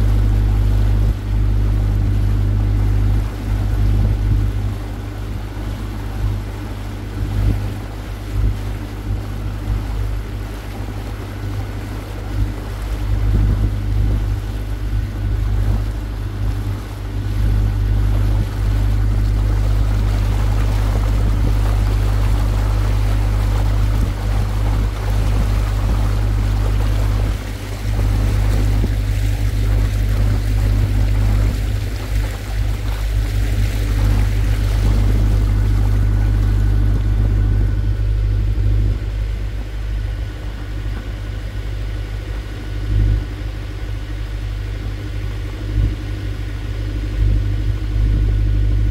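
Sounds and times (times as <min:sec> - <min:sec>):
boat engine running: 0:00.0 - 0:48.9
water churning along hull: 0:00.0 - 0:48.9.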